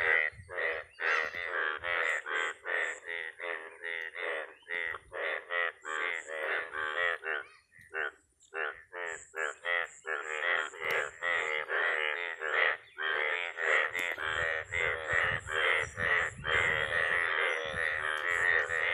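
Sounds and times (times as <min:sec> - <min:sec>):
frogs croaking in chorus: 0:00.0 - 0:18.9.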